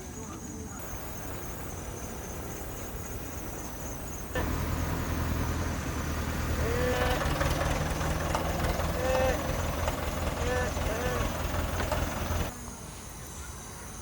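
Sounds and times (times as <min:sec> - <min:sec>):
high insect trill: 0:00.8 - 0:12.5
short rising calls: 0:00.8 - 0:12.5.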